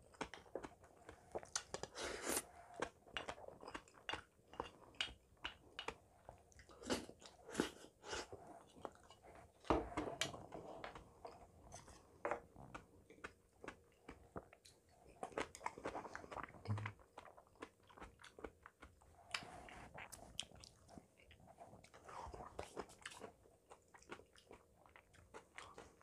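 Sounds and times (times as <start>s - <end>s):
person chewing: 0.1s - 26.0s.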